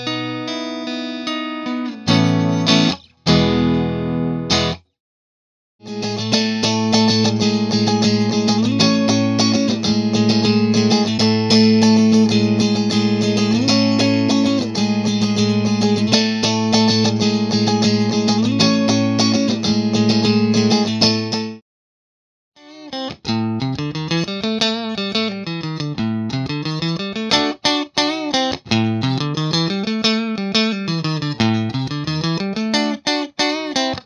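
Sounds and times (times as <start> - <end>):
electric guitar picked notes: 0.0 - 4.8, 5.8 - 21.6, 22.6 - 34.0.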